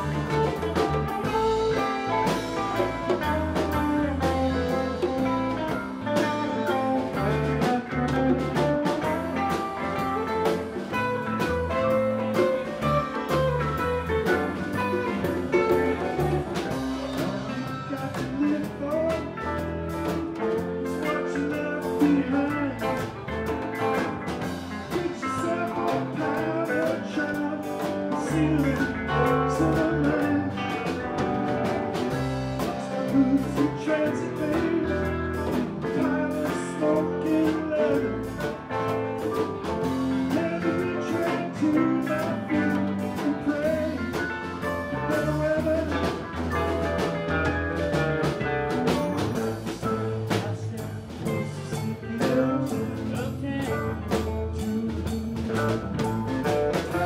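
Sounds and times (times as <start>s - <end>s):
bass line: 0.0s - 57.0s
drum beat: 0.0s - 57.0s
guitar playing tune: 0.0s - 57.0s.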